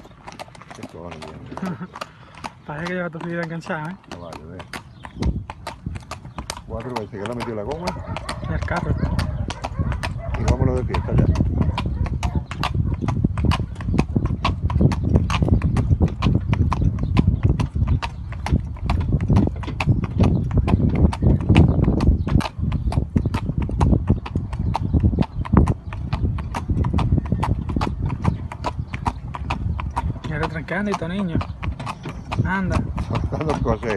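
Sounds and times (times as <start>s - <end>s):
hooves clip-clopping on asphalt: 0.0s - 33.9s.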